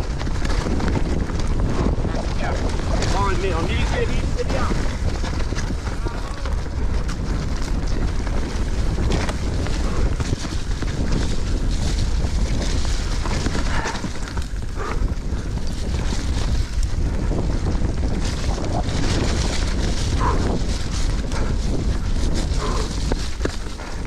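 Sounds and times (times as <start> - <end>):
tyres rolling over dirt and leaves: 0.0 - 14.8, 15.5 - 24.0
bike knocking and rattling: 0.0 - 24.0
wind rushing over microphone: 0.0 - 24.0.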